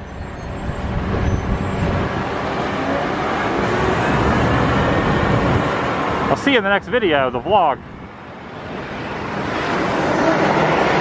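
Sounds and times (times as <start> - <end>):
vehicle engine and tyres passing: 0.0 - 11.0.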